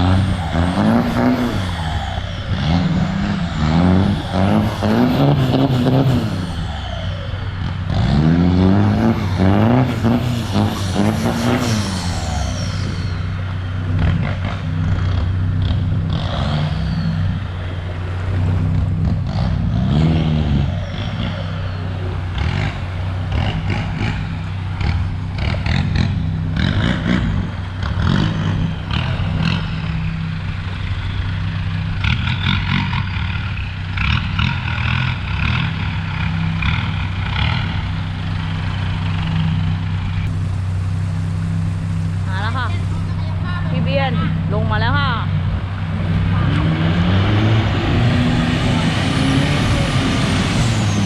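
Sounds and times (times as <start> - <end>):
off-road vehicle engine revving: 0.0 - 51.0.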